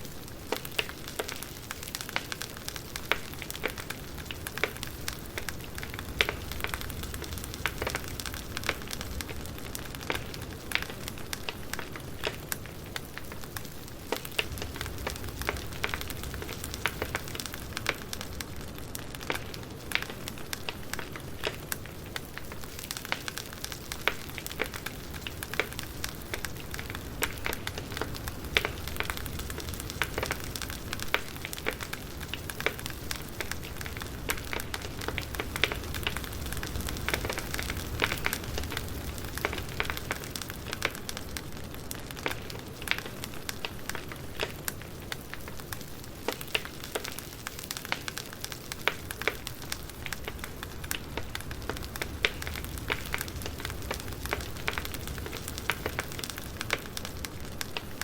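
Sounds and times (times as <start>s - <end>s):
firewood crackling: 0.0s - 58.0s.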